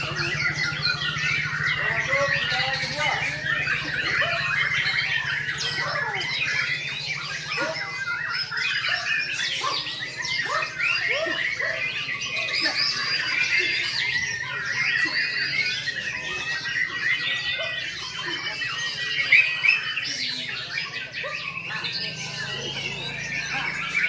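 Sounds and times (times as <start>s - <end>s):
birds singing: 0.0s - 24.0s.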